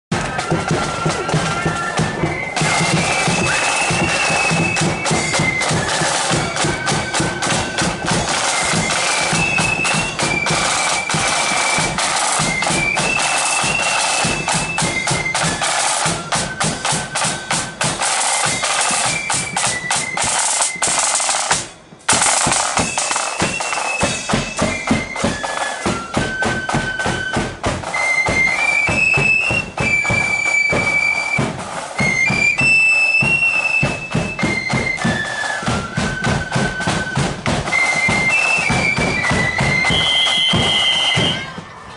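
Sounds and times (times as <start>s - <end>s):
snare and bass drums: 0.1s - 41.8s
flutes playing a march tune: 0.1s - 41.9s.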